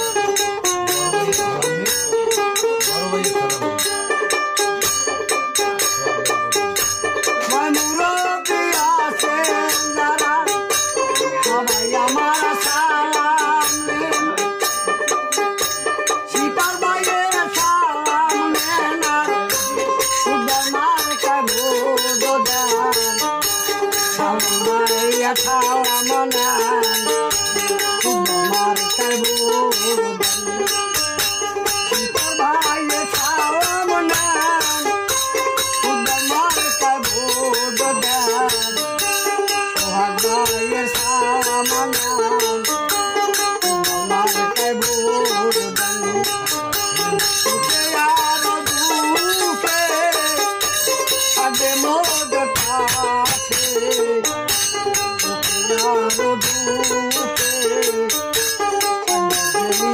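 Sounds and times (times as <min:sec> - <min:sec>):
man singing: 0:00.0 - 0:15.6, 0:16.2 - 0:59.9
jingling rattling beat: 0:00.0 - 0:59.9
plucked lute: 0:00.0 - 0:59.9.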